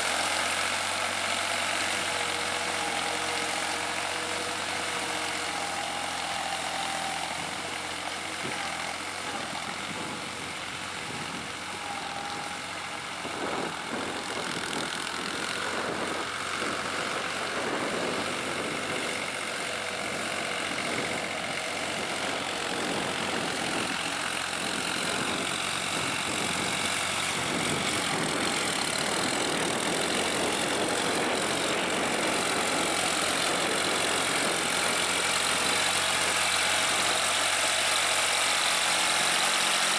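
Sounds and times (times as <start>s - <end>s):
rotary tiller in mud: 0.0s - 39.9s
tractor diesel engine running: 0.0s - 39.9s.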